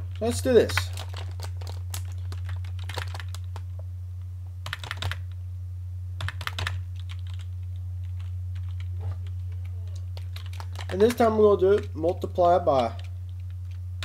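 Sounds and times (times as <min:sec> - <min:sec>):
steady low hum: 0:00.0 - 0:14.0
computer keyboard typing: 0:00.6 - 0:03.6, 0:04.6 - 0:05.3, 0:06.2 - 0:13.8.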